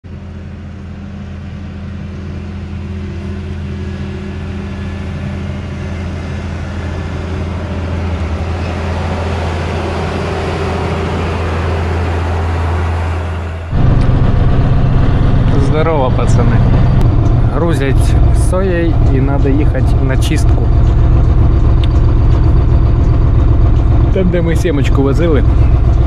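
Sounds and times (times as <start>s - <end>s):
low engine hum: 0.0s - 26.0s
combine harvester machinery noise: 0.1s - 26.0s.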